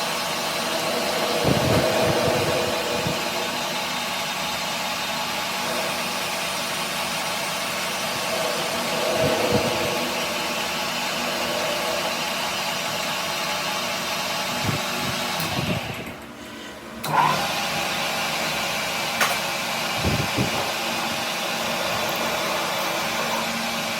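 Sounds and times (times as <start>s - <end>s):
machine tool humming and whirring: 0.0s - 23.9s.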